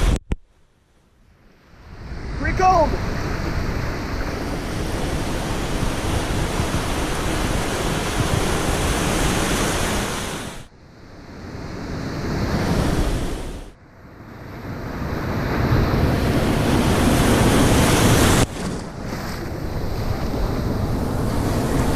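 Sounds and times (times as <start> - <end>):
wind on microphone: 0.0 - 0.4, 1.7 - 13.7, 14.7 - 21.9
waves breaking: 1.6 - 10.7, 11.5 - 13.8, 14.9 - 21.9.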